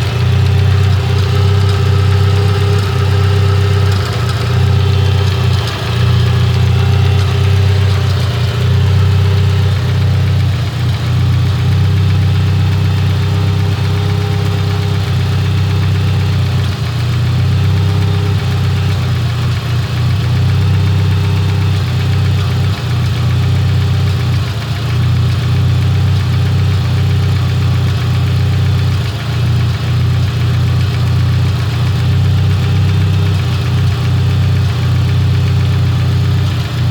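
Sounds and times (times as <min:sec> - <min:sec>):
car engine idling roughly: 0:00.0 - 0:36.9.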